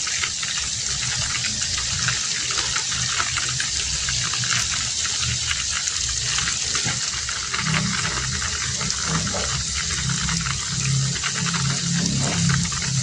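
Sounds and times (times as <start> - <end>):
heavy rain falling: 0.0 - 13.0
low uneven rumble: 0.2 - 13.0.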